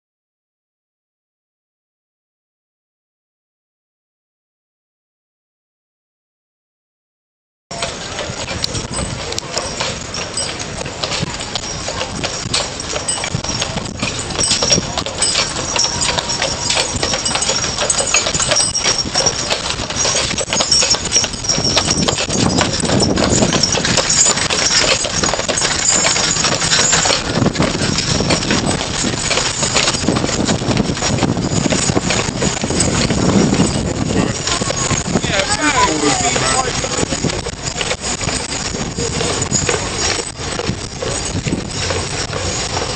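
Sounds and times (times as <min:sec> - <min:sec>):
hooves clip-clopping on road: 0:07.7 - 0:42.9.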